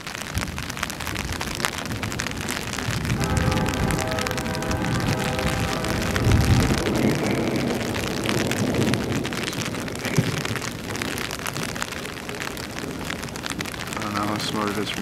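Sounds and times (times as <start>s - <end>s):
heavy rain on an umbrella: 0.0s - 15.0s.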